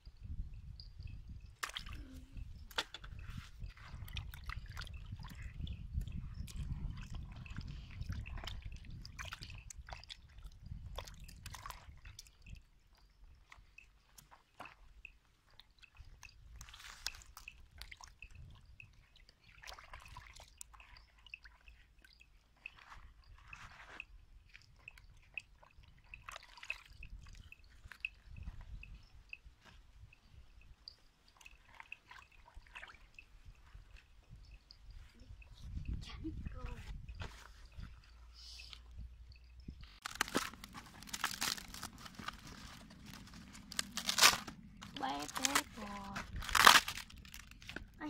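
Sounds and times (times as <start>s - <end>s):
water drips: 0.1s - 48.0s.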